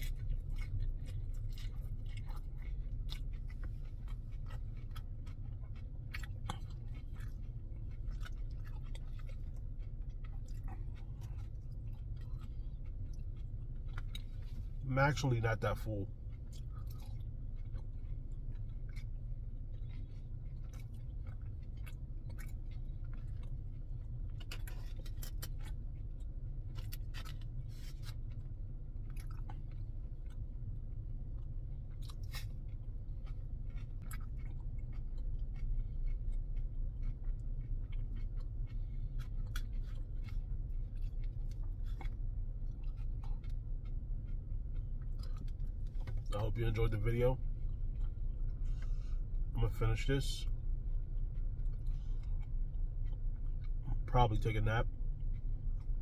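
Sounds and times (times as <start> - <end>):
man chewing food: 0.0 - 56.0
steady low hum: 0.0 - 56.0.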